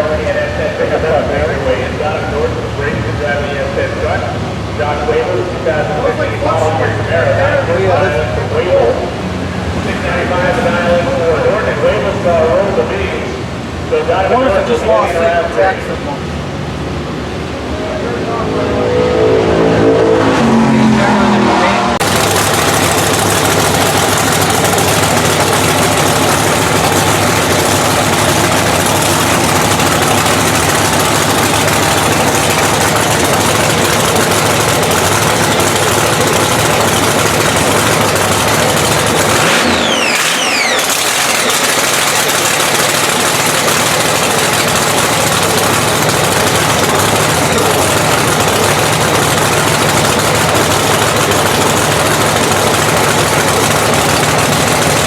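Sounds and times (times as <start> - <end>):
racing engine idling loudly: 0.0 - 55.0.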